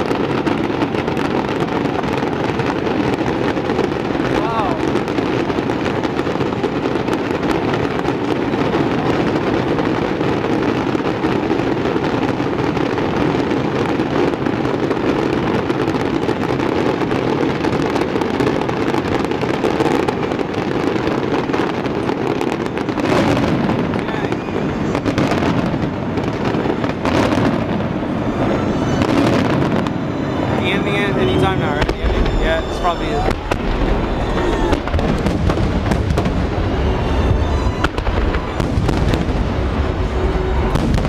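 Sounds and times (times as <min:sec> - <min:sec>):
fireworks bursting and crackling: 0:00.0 - 0:41.0.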